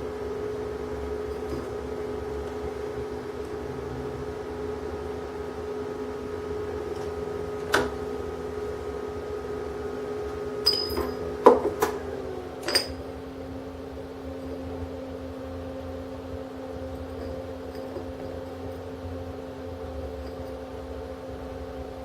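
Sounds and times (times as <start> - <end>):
welding station electrical hum: 0.0 - 22.0.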